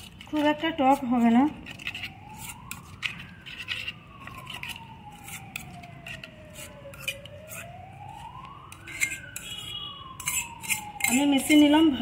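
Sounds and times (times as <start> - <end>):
metal spoon scraping steel bowl: 0.0 - 12.0
siren wailing: 0.0 - 12.0.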